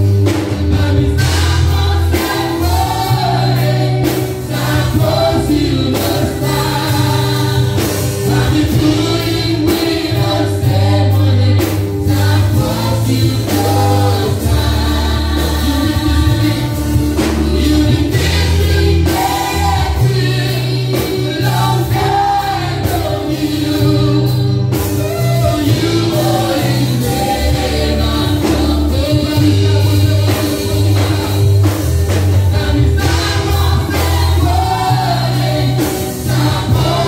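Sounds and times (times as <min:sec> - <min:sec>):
gospel band playing: 0:00.0 - 0:37.0
voices singing together: 0:00.0 - 0:37.0.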